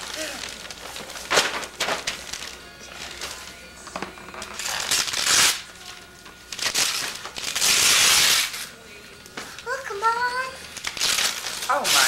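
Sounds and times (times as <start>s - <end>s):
wrapping paper tearing and crinkling: 0.0s - 8.8s, 9.5s - 12.0s.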